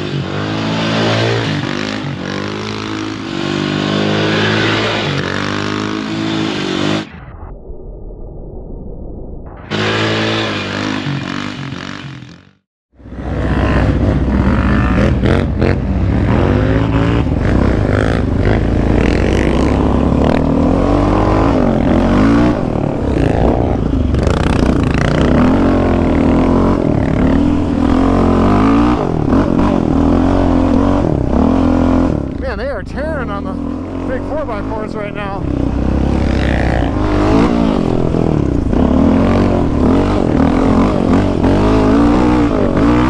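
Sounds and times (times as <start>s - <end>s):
quad engine revving: 0.0s - 7.1s, 9.7s - 43.0s.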